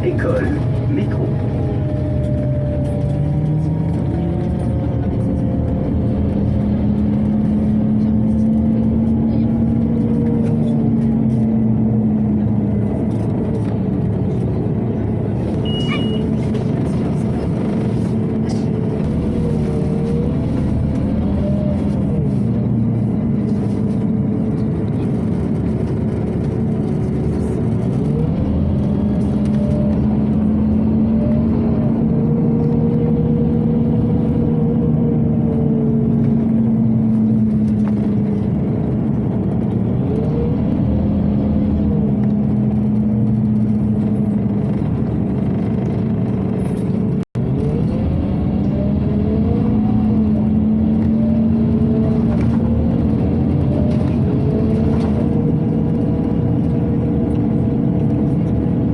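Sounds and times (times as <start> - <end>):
bus diesel engine: 0.0 - 58.9.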